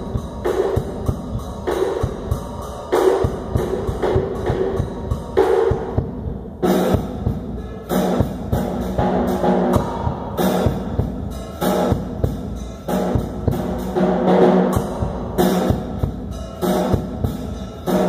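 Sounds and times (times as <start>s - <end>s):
drum kit fast beat: 0.0s - 18.0s.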